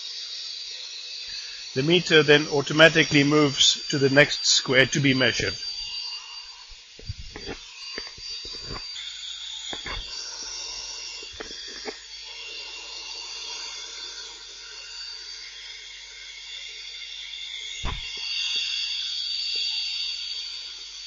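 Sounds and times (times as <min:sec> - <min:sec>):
electric mixer whirring: 0:00.0 - 0:21.0.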